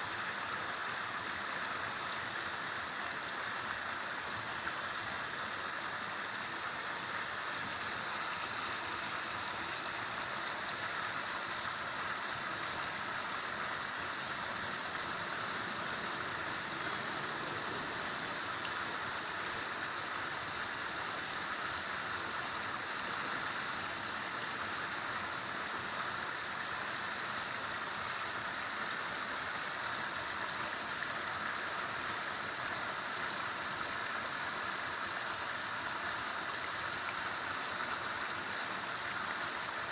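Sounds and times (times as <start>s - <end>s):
canal water rushing: 0.0s - 39.9s.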